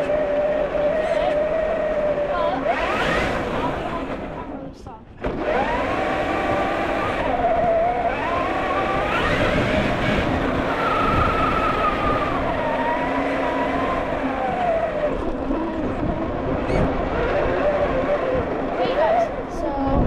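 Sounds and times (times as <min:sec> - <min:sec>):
electric motor and gears whining: 0:00.0 - 0:20.0.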